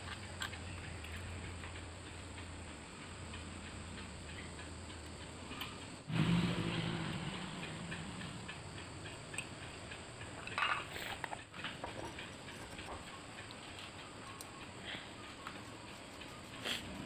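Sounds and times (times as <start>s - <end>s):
engine hum: 0.0s - 13.9s.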